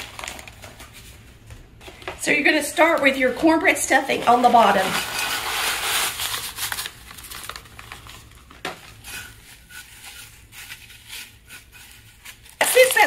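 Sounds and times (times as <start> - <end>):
plastic liner rustling and crinkling: 0.0 - 13.0.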